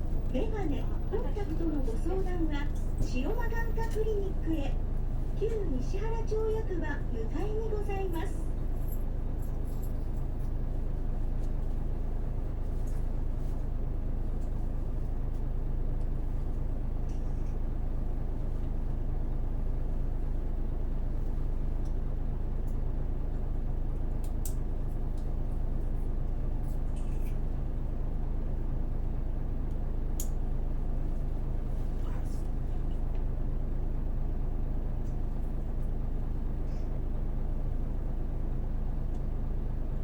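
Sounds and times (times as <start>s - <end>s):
bus engine and road rumble: 0.0s - 40.0s.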